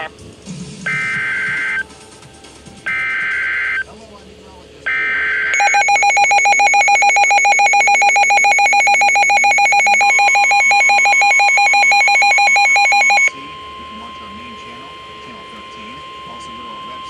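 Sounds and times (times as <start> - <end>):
rapid electronic alarm beeping: 0.8 - 1.9, 2.8 - 3.9, 4.8 - 17.0
steady warning tone: 0.8 - 1.9, 2.8 - 4.0, 4.8 - 17.0.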